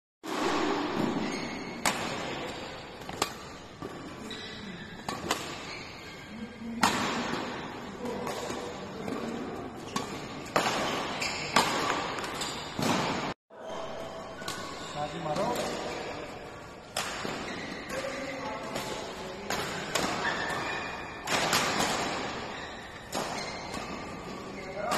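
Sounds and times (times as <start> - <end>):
rackets hitting shuttlecock: 0.3 - 5.9, 6.7 - 13.4, 14.4 - 24.9.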